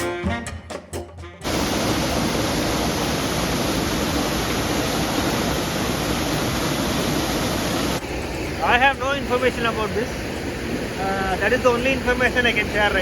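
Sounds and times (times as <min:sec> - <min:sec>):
waterfall rushing: 0:01.4 - 0:13.0.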